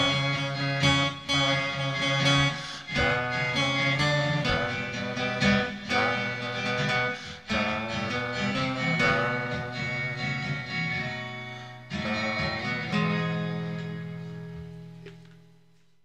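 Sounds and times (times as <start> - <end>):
acoustic guitar strumming chords: 0.0 - 15.8.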